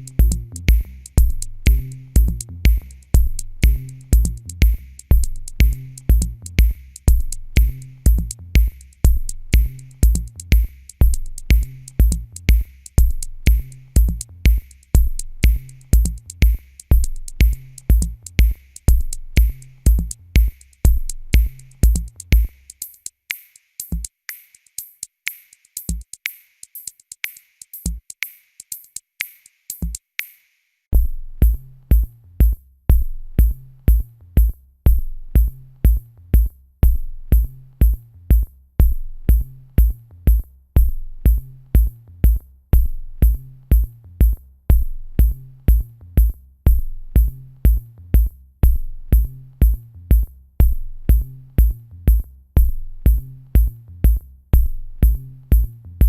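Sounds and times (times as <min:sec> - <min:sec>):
electronic music with drum-machine beat: 0:00.0 - 0:30.0, 0:35.2 - 0:55.9.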